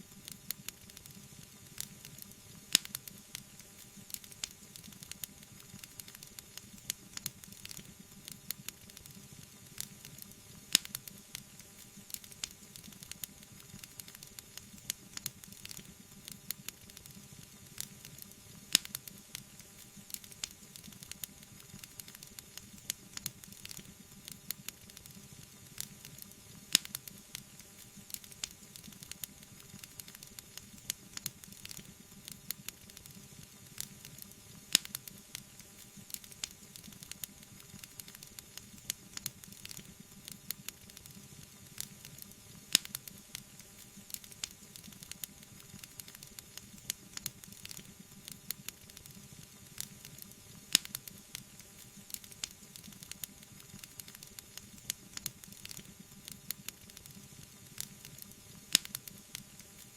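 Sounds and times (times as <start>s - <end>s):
loud fire snaps: 0.0s - 59.9s
wood fire crackling: 0.0s - 59.9s.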